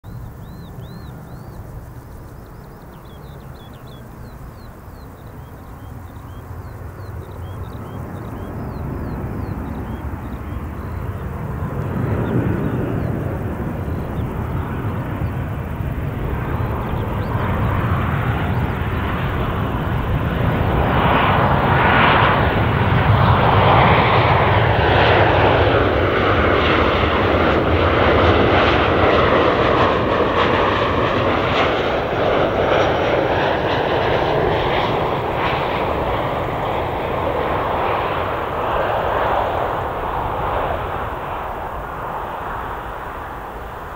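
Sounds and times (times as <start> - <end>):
jet airliner passing overhead: 0.1 - 43.9.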